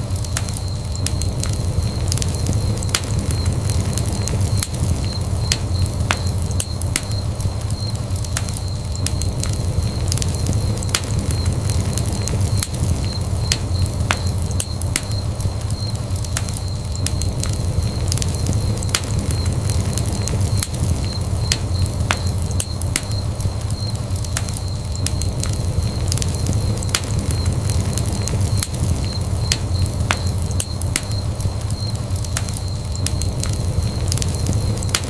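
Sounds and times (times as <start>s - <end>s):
fire crackling and popping: 0.0s - 35.0s
fire rumbling: 0.0s - 35.0s.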